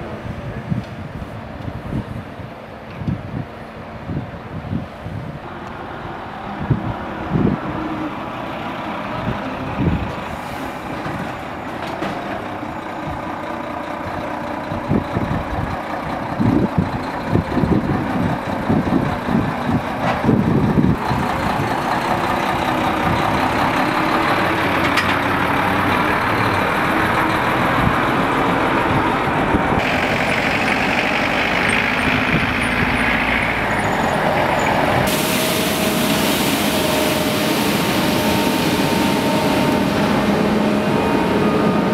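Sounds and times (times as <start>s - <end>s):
truck diesel engine passing: 3.6s - 41.9s.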